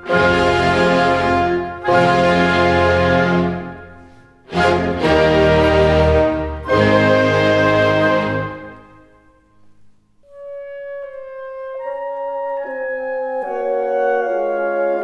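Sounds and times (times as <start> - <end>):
slow music of long held notes: 0.0 - 15.0.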